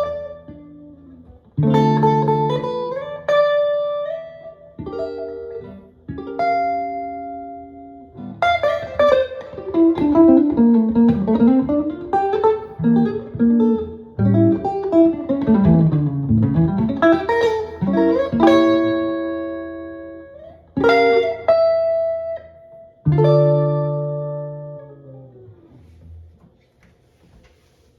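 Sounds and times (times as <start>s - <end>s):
solo jazz guitar: 0.0s - 27.8s.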